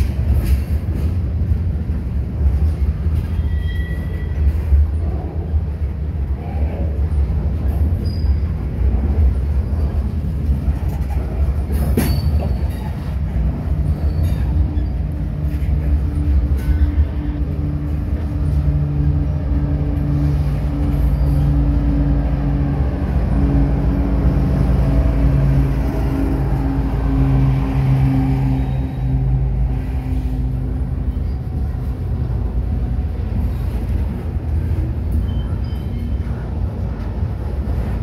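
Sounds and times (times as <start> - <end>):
diesel locomotive drone: 0.0 - 38.0
freight cars rumbling on rails: 0.0 - 38.0.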